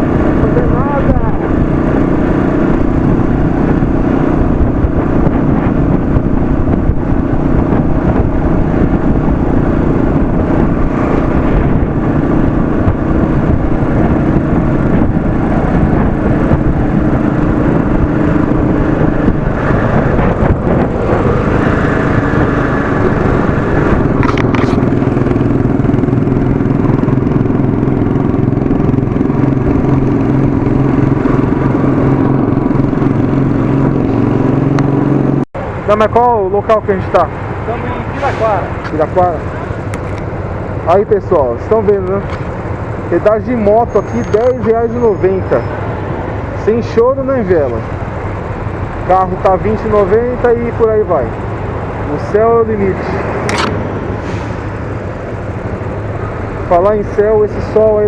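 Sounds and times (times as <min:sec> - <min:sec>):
motorcycle engine running: 0:00.0 - 0:46.5
wind rushing over microphone: 0:00.0 - 0:58.0.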